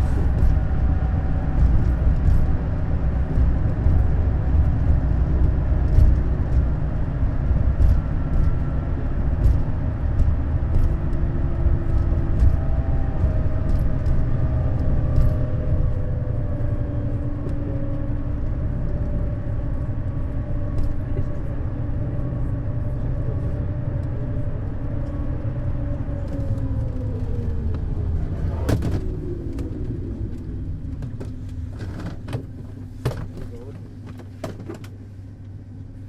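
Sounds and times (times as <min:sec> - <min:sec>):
coach engine and road rumble: 0:00.0 - 0:36.0
faint whines: 0:00.0 - 0:36.0.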